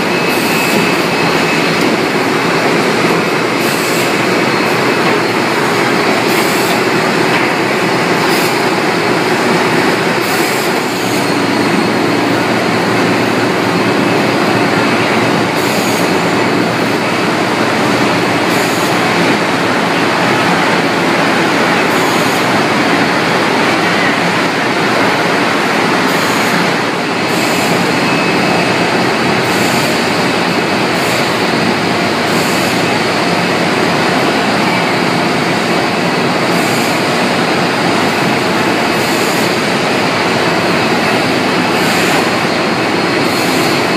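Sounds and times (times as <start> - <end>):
processing line clatter and rumble: 0.0 - 43.9.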